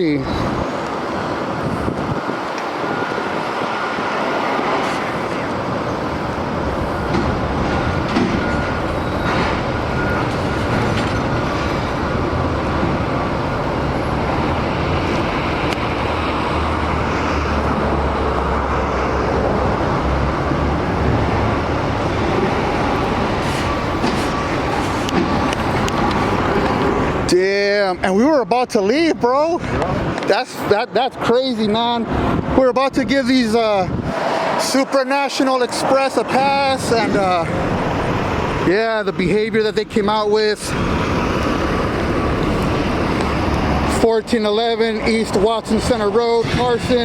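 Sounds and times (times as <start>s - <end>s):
heavy vehicle engine rumble: 0.0s - 47.0s
road noise: 0.0s - 47.0s.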